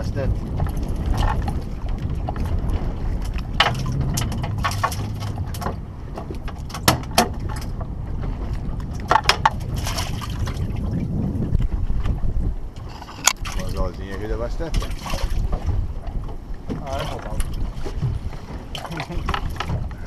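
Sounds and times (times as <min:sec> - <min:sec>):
low rumble: 0:00.0 - 0:20.0
water lapping against boat: 0:00.0 - 0:20.0.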